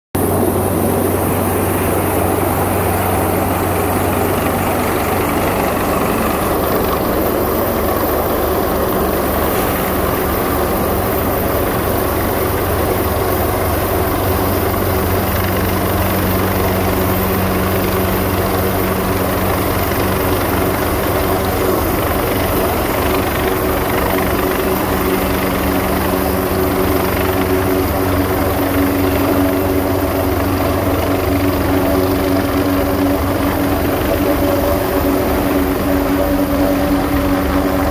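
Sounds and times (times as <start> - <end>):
helicopter hovering overhead: 0.2 - 37.9.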